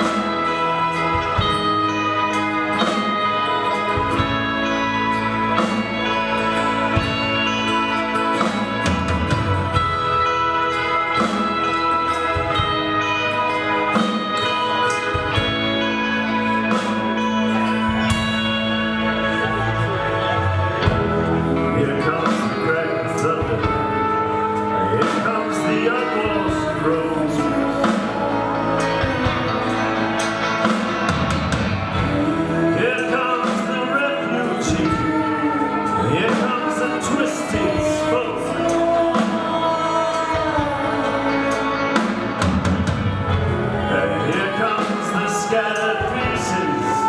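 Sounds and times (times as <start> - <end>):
drum kit: 0.0 - 47.0
guitars: 0.0 - 47.0
keyboard: 0.0 - 47.0
person singing: 0.0 - 47.0.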